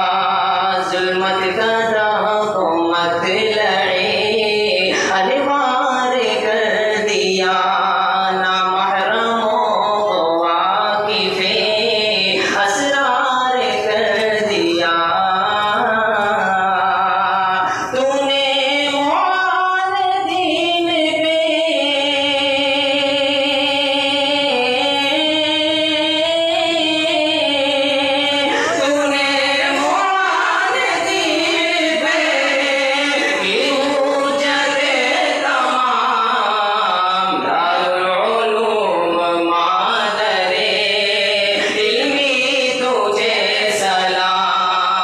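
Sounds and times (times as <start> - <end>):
person singing: 0.0 - 45.0.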